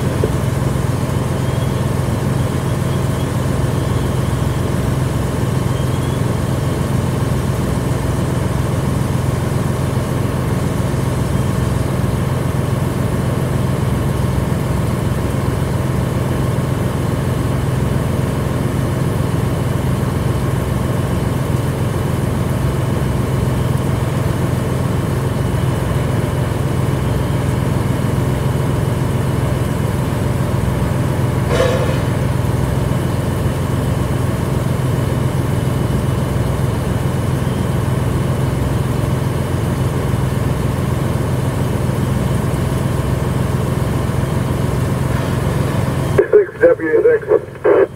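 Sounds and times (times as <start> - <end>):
engine droning: 0.0 - 47.9.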